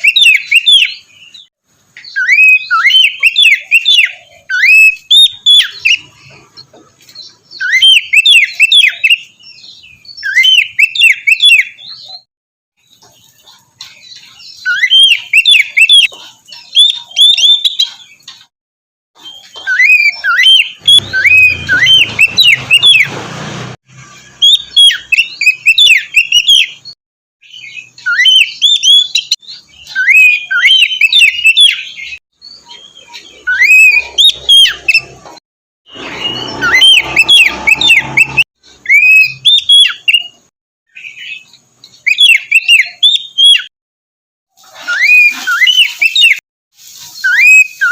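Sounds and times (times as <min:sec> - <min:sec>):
bird singing whistled notes: 0:00.0 - 0:06.4, 0:07.2 - 0:12.2, 0:13.9 - 0:18.3, 0:19.2 - 0:23.1, 0:24.0 - 0:35.2, 0:35.9 - 0:43.7, 0:44.9 - 0:46.4, 0:47.1 - 0:47.9.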